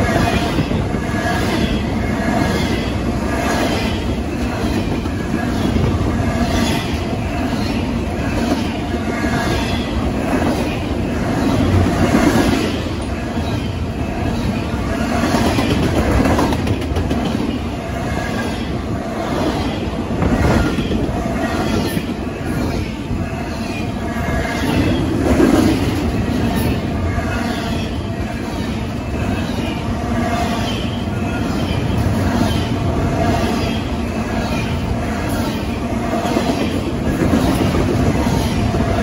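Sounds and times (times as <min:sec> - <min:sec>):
freight train wheels clattering: 0:00.0 - 0:39.0.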